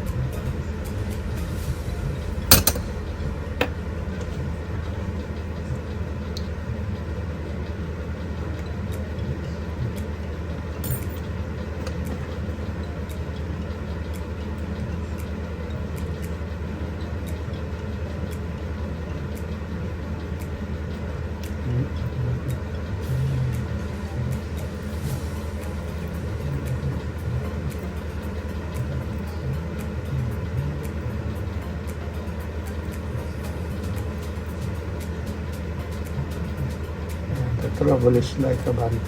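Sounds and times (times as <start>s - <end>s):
low hum of workshop machinery: 0.0s - 39.0s.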